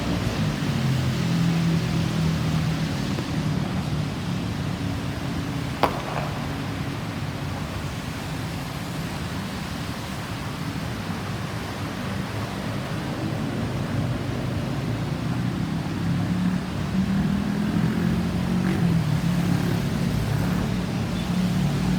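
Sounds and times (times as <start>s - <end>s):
road vehicles rumbling: 0.0s - 21.9s.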